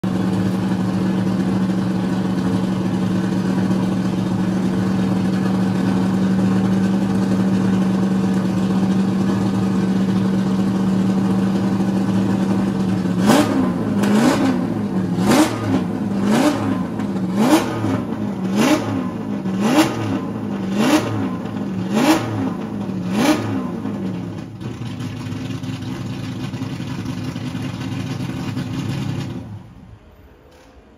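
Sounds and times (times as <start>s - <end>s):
car engine idling and revving: 0.0s - 30.7s.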